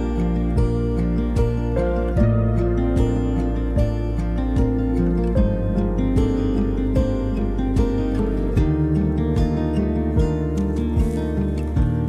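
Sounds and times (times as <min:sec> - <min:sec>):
plucked-string melody: 0:00.0 - 0:12.0
sustained bass notes: 0:00.0 - 0:12.0.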